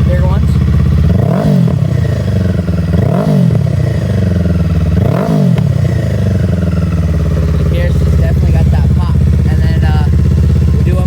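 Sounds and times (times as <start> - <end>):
motorcycle engine idling: 0.0 - 11.0
motorcycle throttle blips: 0.0 - 11.0.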